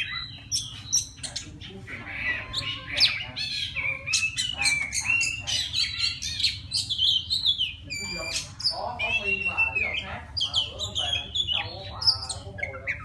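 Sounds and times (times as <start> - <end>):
bird singing varied song: 0.0 - 13.0.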